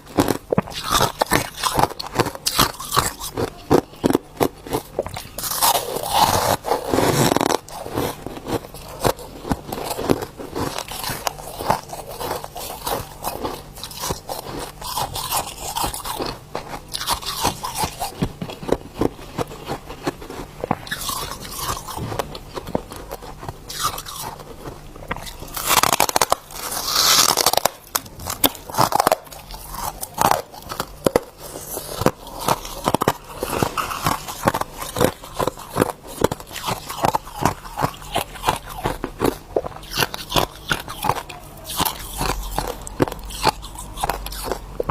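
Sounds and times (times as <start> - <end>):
ice crunching while chewed: 0.0 - 44.9.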